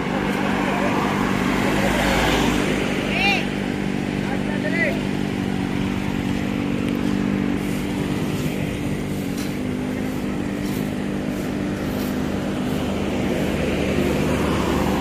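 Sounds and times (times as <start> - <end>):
low engine hum: 0.0 - 15.0
vehicles passing: 0.0 - 15.0.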